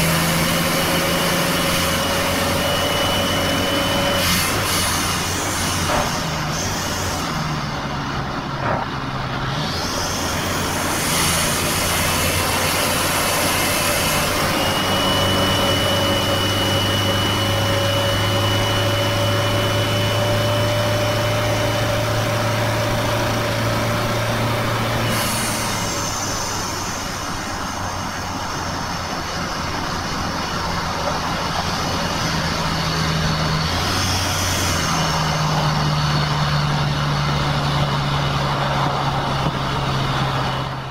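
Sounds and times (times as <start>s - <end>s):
car engine drone: 0.0s - 40.9s
tyre and road noise: 0.0s - 40.9s.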